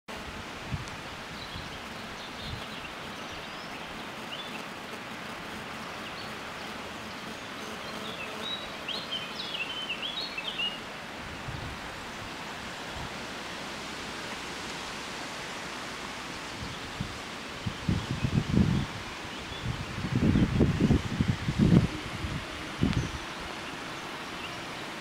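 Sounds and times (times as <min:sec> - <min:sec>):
rustling leaves: 0:00.1 - 0:25.0
wind: 0:00.1 - 0:25.0.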